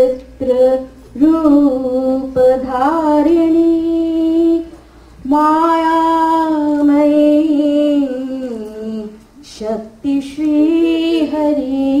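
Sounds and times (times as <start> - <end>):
high voice singing unaccompanied: 0.0 - 12.0.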